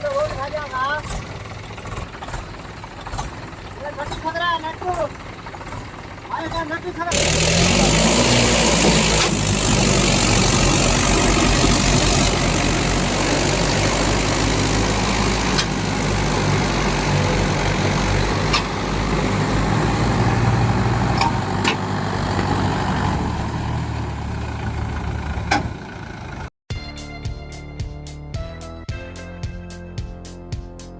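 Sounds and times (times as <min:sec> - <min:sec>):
tractor diesel engine running: 0:00.0 - 0:26.5.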